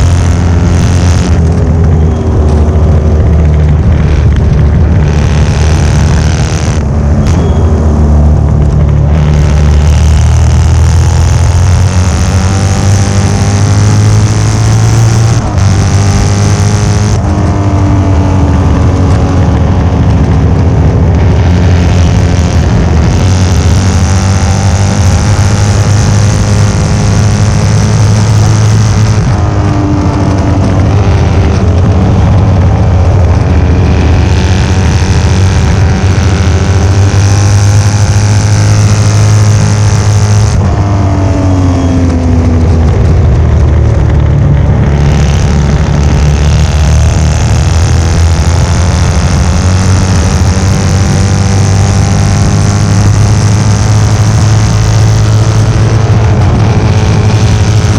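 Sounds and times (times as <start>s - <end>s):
motorcycle engine racing: 0.0s - 57.9s.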